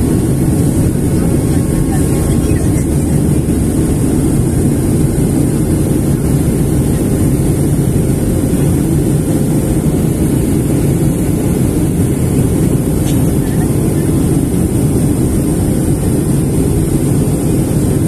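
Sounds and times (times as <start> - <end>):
jet cabin engine and airflow noise: 0.0 - 18.0.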